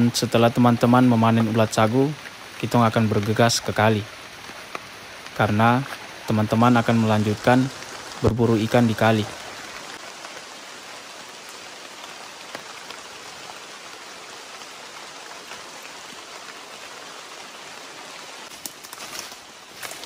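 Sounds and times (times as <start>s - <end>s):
rain falling on foliage: 0.0s - 20.0s.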